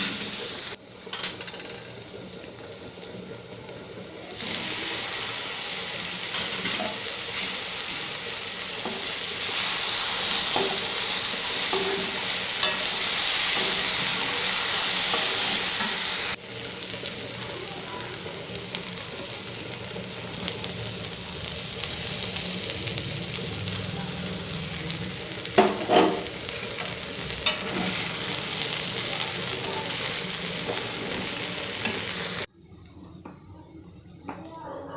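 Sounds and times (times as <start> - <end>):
banana slices sizzling in oil: 0.0 - 32.5.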